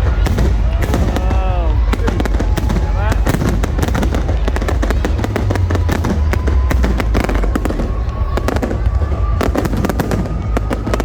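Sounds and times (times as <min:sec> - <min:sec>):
fireworks crackles and bangs: 0:00.0 - 0:11.0.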